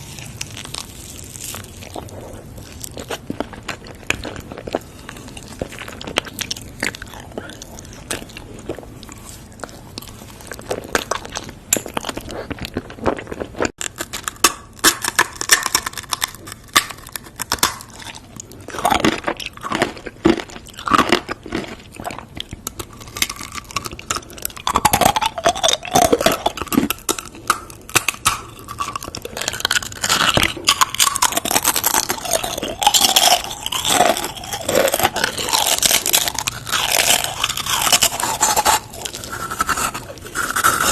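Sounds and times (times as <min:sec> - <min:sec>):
chewing: 0:00.0 - 0:40.9
crunchy bites: 0:00.0 - 0:40.9.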